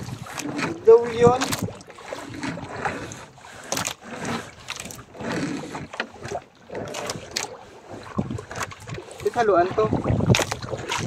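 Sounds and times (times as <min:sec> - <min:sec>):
knocks and clatter on boat: 0:00.0 - 0:11.0
water against boat hull: 0:00.0 - 0:11.0
wind: 0:00.0 - 0:11.0.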